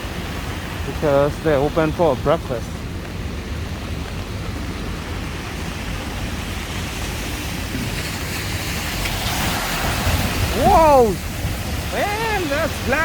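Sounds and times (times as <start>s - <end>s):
heavy rain: 0.0s - 13.0s
wind rumbling on microphone: 0.0s - 13.0s.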